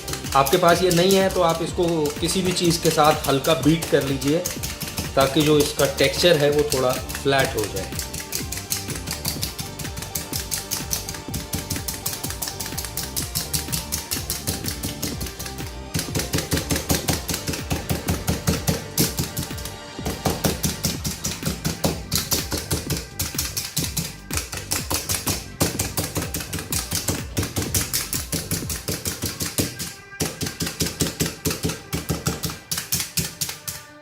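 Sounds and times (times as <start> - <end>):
meat tenderizer punching meat: 0.0 - 33.9
background music: 0.0 - 34.0.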